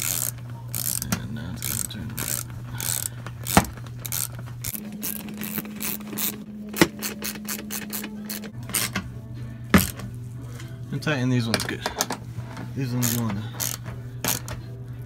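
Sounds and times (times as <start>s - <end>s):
hand ratchet clicking: 0.0s - 9.1s, 9.8s - 10.0s, 11.6s - 14.6s.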